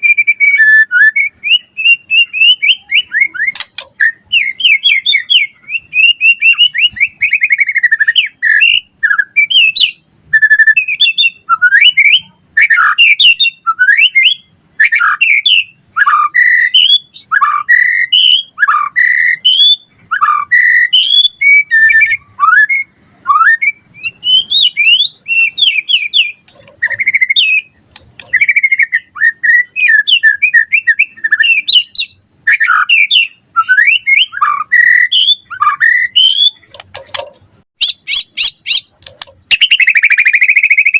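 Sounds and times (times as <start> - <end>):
bird singing whistled phrases: 0.0 - 36.7, 37.8 - 40.9.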